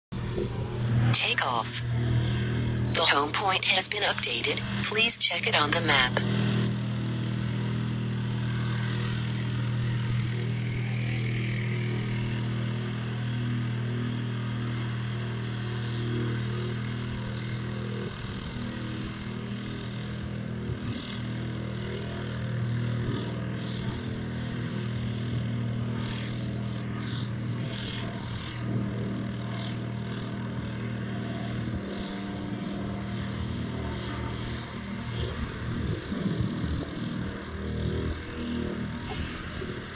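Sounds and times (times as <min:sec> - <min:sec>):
motor hum: 0:00.1 - 0:39.9.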